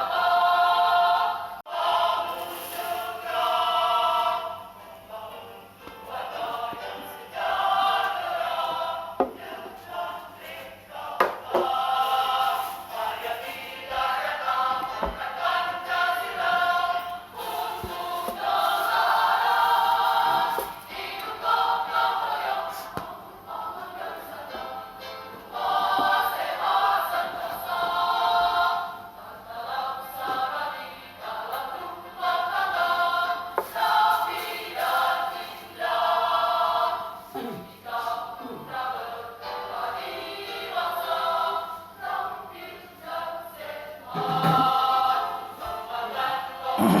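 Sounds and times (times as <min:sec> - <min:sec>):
group of voices singing: 0:00.0 - 0:47.0.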